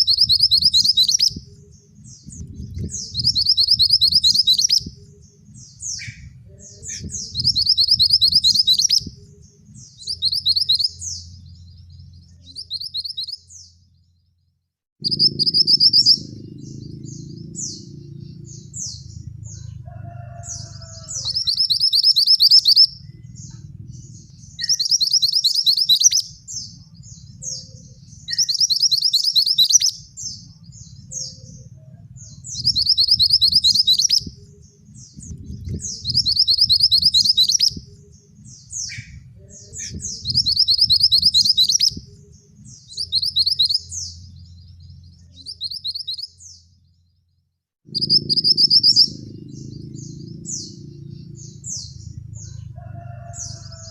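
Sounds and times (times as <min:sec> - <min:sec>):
bird singing trilled phrase: 0:00.0 - 0:13.8, 0:15.0 - 0:19.7, 0:20.4 - 0:34.8, 0:35.6 - 0:37.8, 0:38.8 - 0:44.3, 0:45.2 - 0:46.7, 0:47.9 - 0:52.6
low steady rumble: 0:00.1 - 0:14.4, 0:15.0 - 0:28.8, 0:29.9 - 0:45.6, 0:46.3 - 0:53.9.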